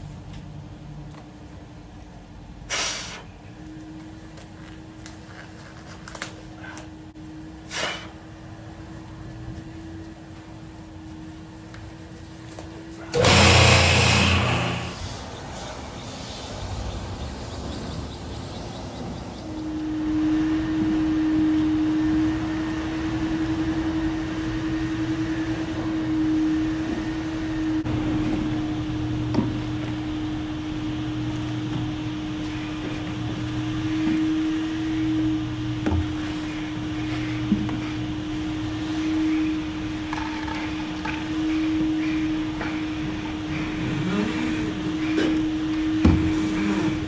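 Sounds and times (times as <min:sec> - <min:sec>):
sweeper motor drone: 0:08.4 - 0:47.0.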